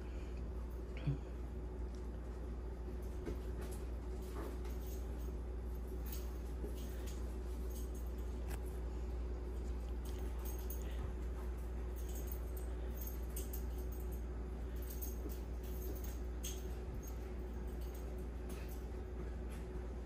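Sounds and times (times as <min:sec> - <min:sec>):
low electrical hum: 0:00.0 - 0:20.0
faint clicks and light jingles: 0:03.0 - 0:08.8, 0:09.4 - 0:19.9.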